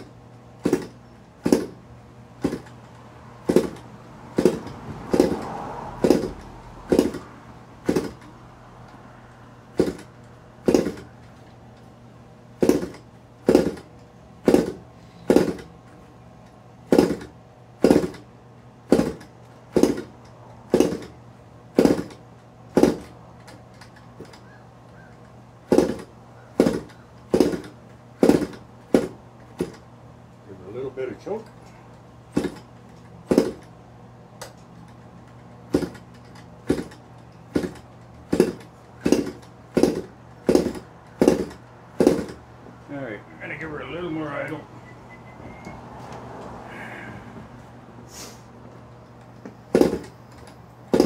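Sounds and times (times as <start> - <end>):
engine turning over: 0.0 - 11.9, 12.6 - 29.9, 32.2 - 33.8, 34.4 - 42.5, 49.0 - 51.0.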